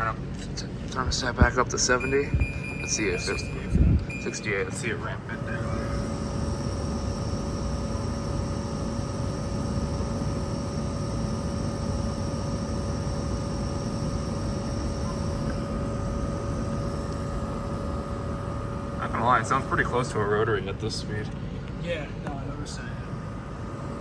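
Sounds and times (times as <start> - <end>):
air conditioner fan blowing: 0.0 - 24.0
compressor humming and whining: 0.0 - 24.0
faint high whine: 1.7 - 21.2, 22.4 - 24.0.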